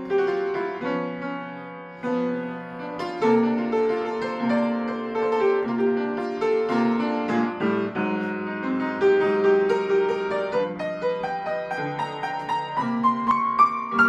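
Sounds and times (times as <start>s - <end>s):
slow jazz piano: 0.0s - 14.0s.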